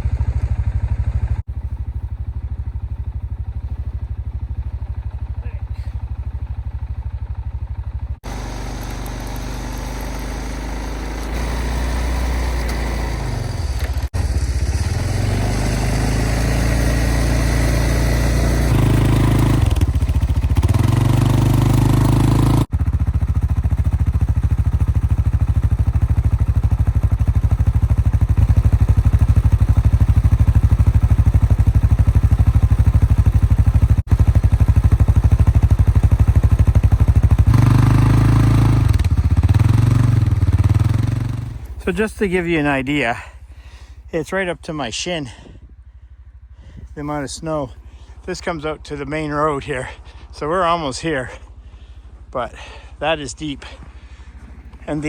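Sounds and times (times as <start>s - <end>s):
atv engine running under load: 0.0s - 55.0s.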